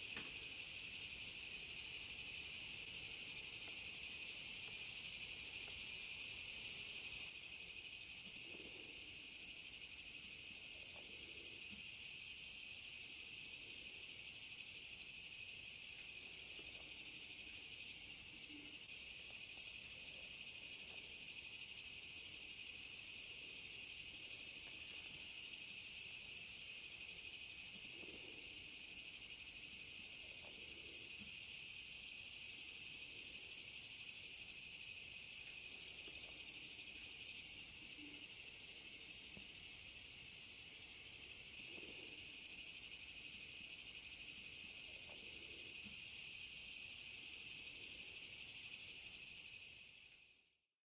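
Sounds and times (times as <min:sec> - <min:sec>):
crickets and insects trilling: 0:00.0 - 0:50.4.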